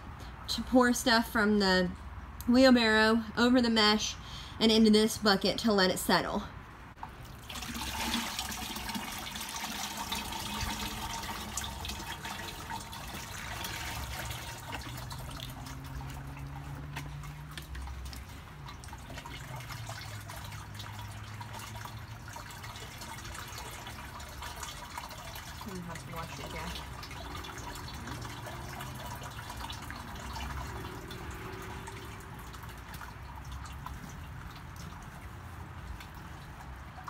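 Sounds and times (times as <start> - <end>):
liquid mud pouring: 7.0 - 37.0.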